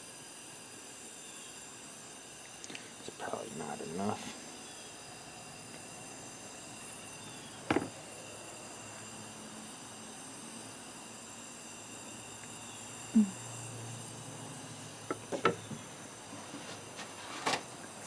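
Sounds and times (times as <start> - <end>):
faint high-pitched hiss: 0.0 - 18.0.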